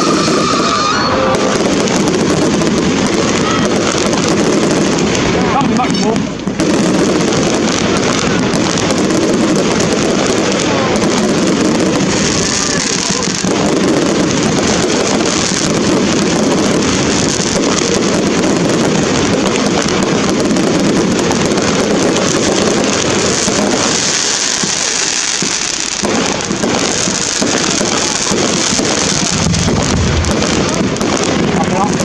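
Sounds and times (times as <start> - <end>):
fireworks crackling and banging: 0.0 - 32.0.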